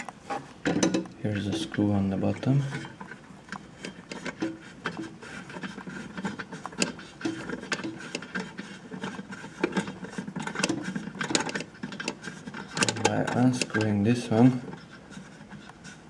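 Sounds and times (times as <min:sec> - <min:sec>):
small metal clicks and rubbing: 0:00.0 - 0:16.0.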